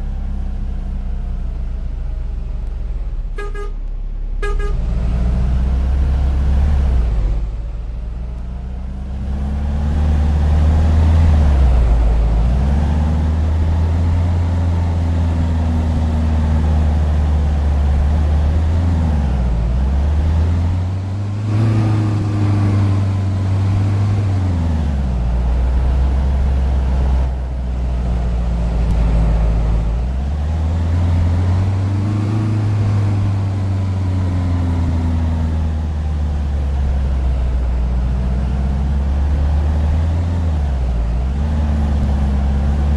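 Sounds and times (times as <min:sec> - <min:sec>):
vehicle motor running: 0:00.0 - 0:42.9.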